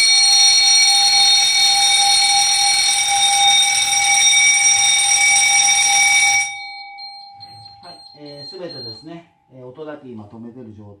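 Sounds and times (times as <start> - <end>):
fire bell ringing: 0.0 - 9.6.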